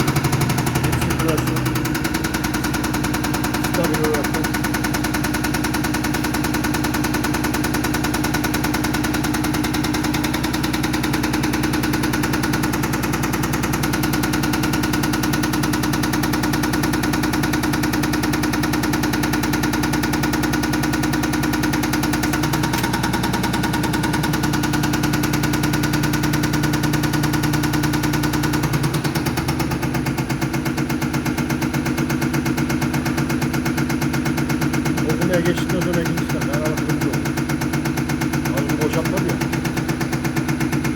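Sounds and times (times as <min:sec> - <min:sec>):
diesel pump test bench pulsing: 0:00.0 - 0:40.9.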